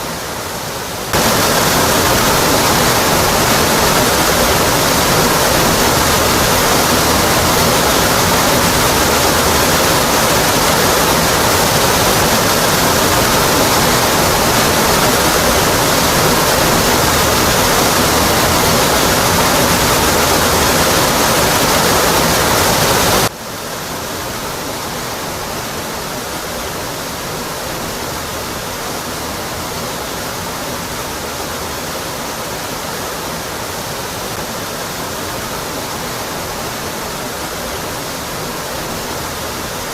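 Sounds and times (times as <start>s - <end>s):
waterfall rushing onto rock: 0.0s - 39.9s.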